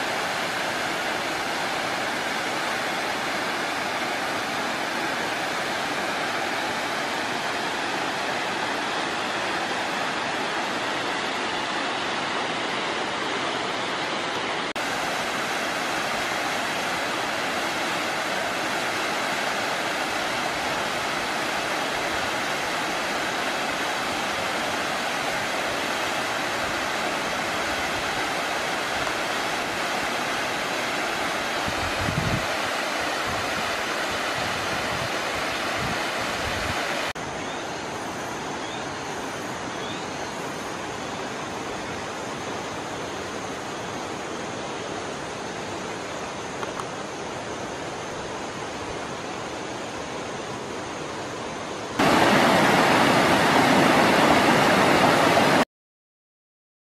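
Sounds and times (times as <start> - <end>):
waterfall rushing: 0.0 - 55.6.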